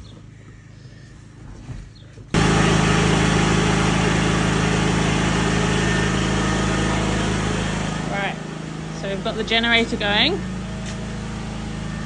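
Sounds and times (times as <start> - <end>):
petrol generator engine drone: 2.3 - 12.0.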